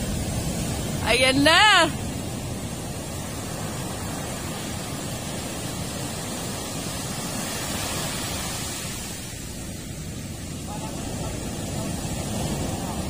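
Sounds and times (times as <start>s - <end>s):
big waves breaking: 0.0s - 13.0s.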